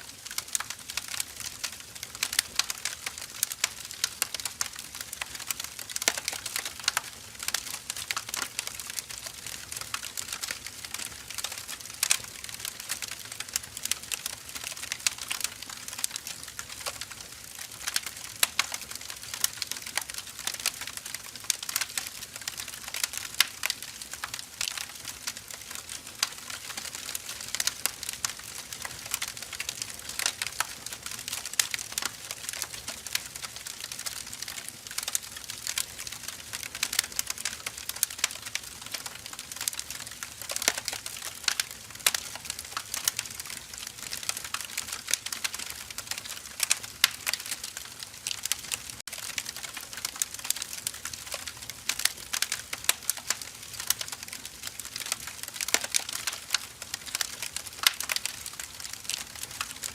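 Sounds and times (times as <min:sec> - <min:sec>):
firewood crackling and popping: 0:00.0 - 0:59.9.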